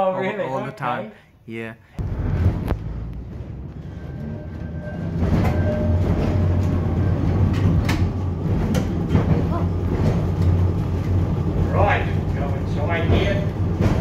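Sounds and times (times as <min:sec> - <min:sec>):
electric tram humming: 0:02.0 - 0:14.0.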